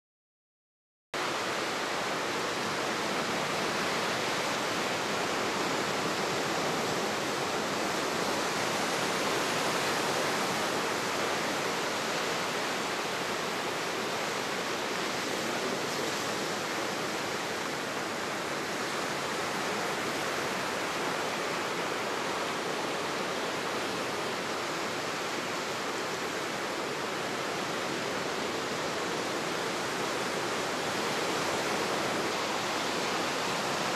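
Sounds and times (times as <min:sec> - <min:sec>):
ocean surf breaking: 0:02.6 - 0:33.9.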